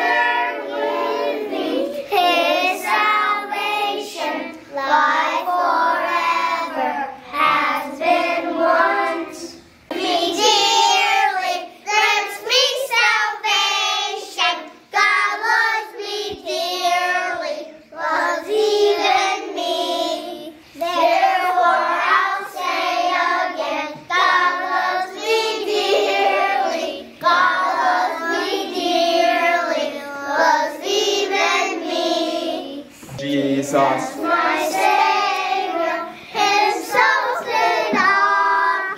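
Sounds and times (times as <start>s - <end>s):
children's choir singing: 0.0s - 38.9s.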